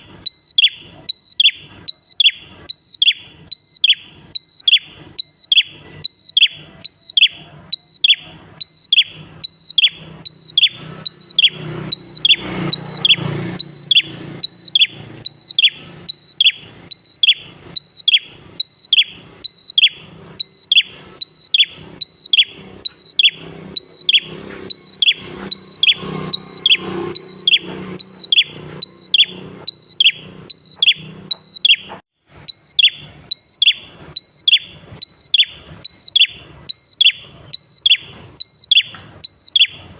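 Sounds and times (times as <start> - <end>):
bird calling sharp whistles: 0.0 - 39.9.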